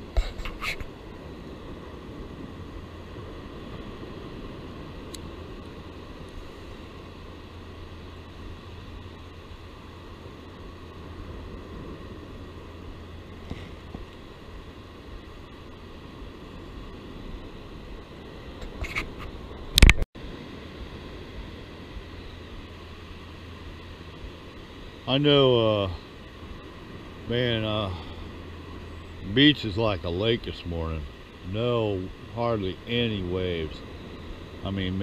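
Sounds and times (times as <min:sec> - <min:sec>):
low hum: 0:00.0 - 0:35.0
small waves washing on beach: 0:00.0 - 0:35.0.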